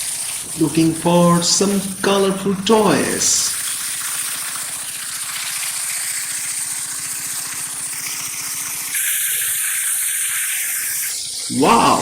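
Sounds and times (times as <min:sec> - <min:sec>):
pump engine rattling: 0:00.0 - 0:12.0
water gushing from pipe: 0:00.0 - 0:12.0.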